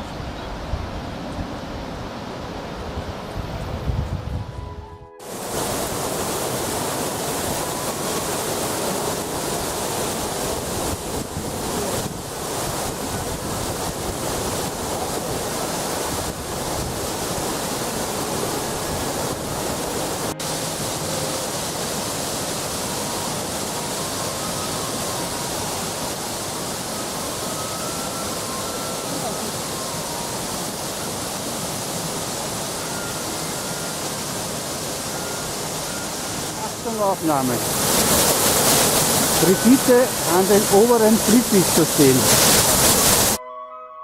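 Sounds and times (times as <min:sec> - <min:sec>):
waterfall rushing: 0:05.2 - 0:43.4.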